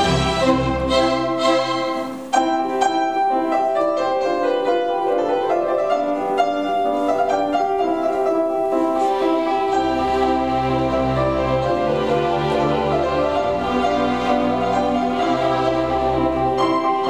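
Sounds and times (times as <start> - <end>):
grand piano playing: 0.0 - 17.0
string orchestra: 0.0 - 17.0.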